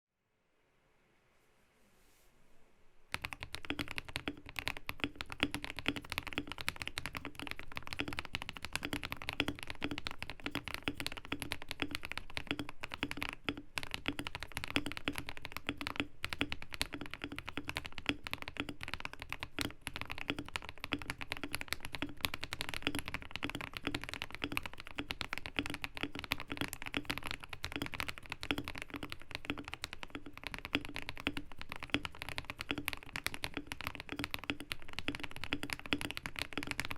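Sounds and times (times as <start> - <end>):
mechanical keyboard typing: 3.1 - 36.9.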